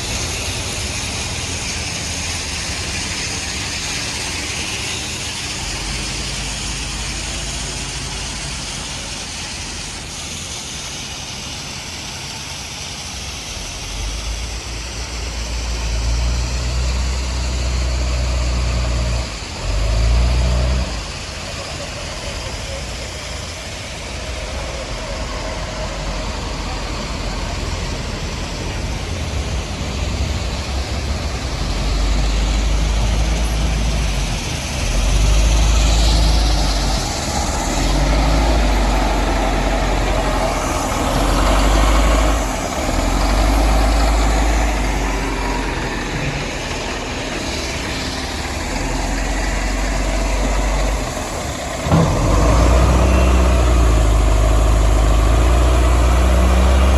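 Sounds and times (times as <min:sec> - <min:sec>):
heavy machine engine rumbling: 0:00.0 - 0:56.9.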